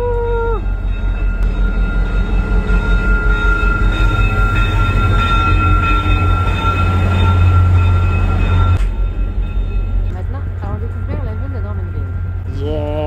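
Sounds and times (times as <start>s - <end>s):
diesel locomotive engine rumbling: 0.0s - 13.0s
steady high-pitched tone: 0.0s - 13.0s.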